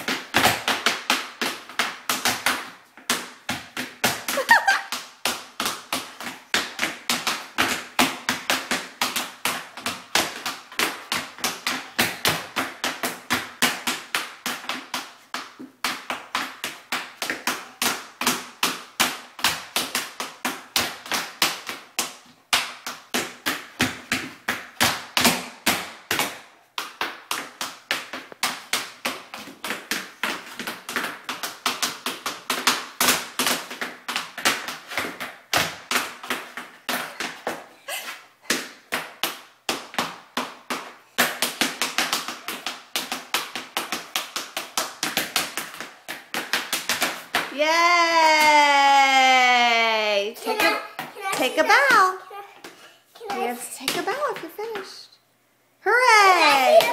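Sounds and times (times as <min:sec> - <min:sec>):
tap shoes on hardwood floor: 0:00.0 - 0:37.7, 0:38.5 - 0:48.6, 0:50.4 - 0:55.0.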